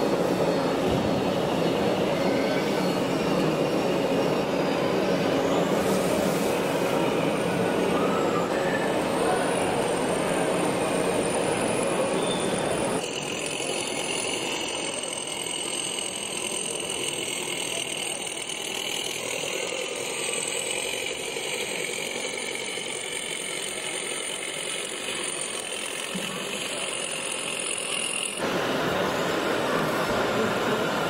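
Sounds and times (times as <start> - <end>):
model bulldozer drive whine: 0.0 - 31.0.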